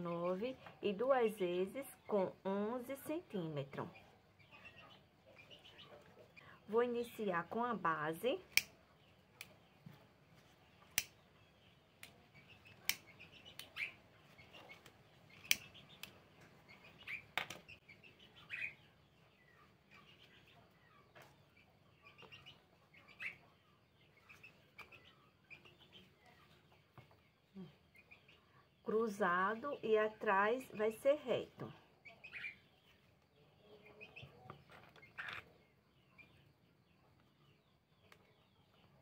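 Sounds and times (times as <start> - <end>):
faint bird chirps: 0.0 - 39.0.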